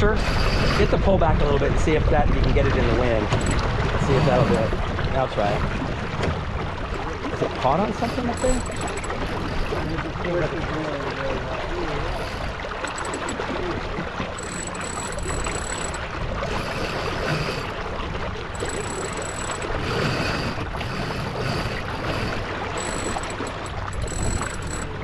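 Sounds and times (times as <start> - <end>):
water splashing along hull: 0.0 - 25.0.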